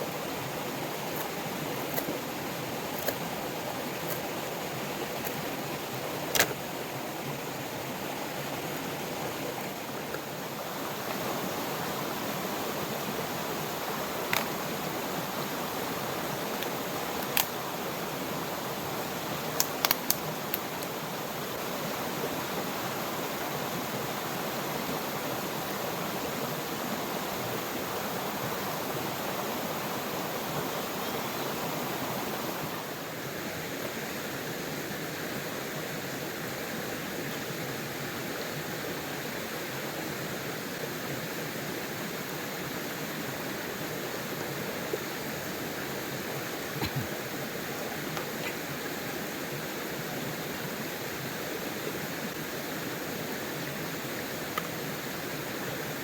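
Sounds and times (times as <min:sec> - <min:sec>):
flowing river: 0:00.0 - 0:56.0.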